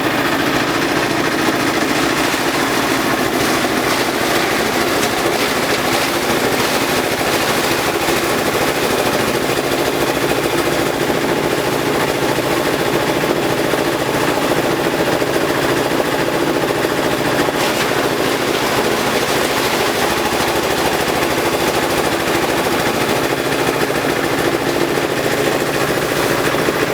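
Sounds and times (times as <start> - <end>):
compost shredder rattling: 0.0 - 26.9.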